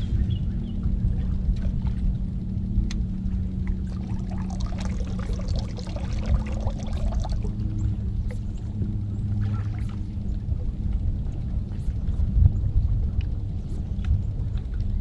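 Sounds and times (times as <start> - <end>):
steady low hum: 0.0 - 15.0
water lapping against boat hull: 0.0 - 15.0.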